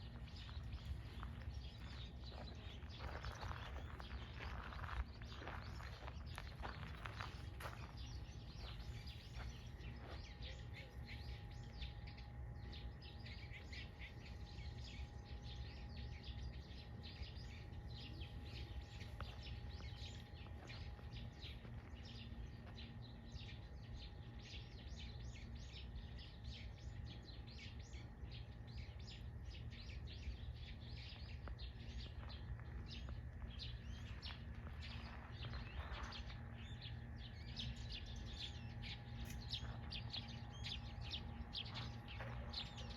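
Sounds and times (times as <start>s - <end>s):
faint low rumble: 0.0s - 42.9s
small birds chirping: 0.0s - 42.9s.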